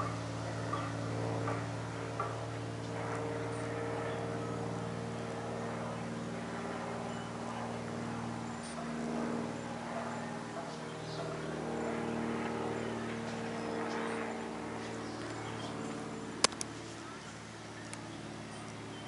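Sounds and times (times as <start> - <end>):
propeller plane droning overhead: 0.0 - 19.0.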